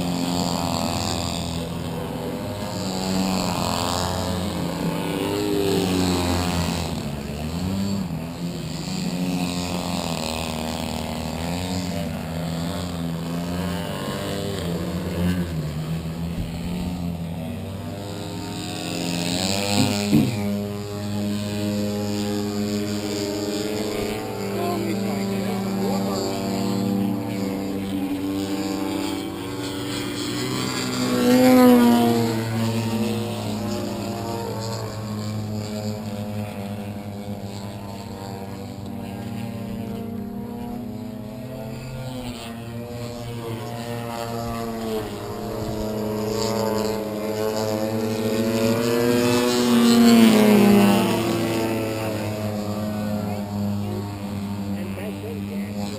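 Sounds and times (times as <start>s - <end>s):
model airplane engine in flight: 0.0s - 55.9s.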